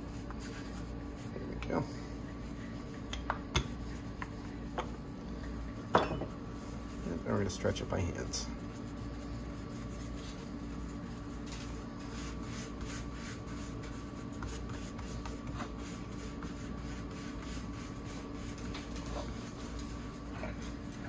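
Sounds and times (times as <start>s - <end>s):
hands rubbing and patting dough: 0.0s - 21.0s
steady background hum: 0.0s - 21.0s.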